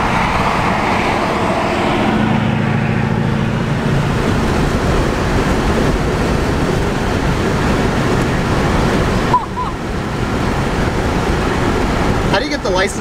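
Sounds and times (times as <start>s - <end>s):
low engine drone: 0.0s - 13.0s
road and wind noise in car: 0.0s - 13.0s.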